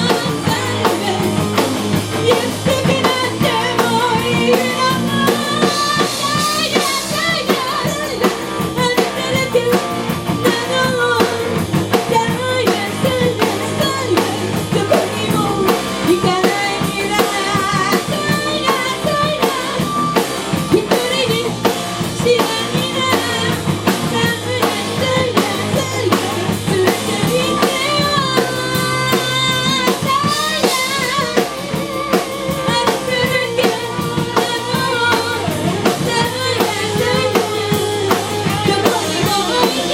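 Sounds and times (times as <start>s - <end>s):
drum kit beat: 0.0s - 39.9s
electric guitar: 0.0s - 39.9s
person singing: 0.0s - 39.9s.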